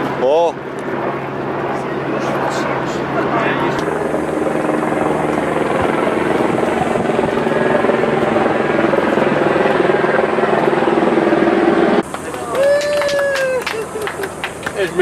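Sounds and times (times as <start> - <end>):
helicopter engine and rotor: 0.0 - 12.4.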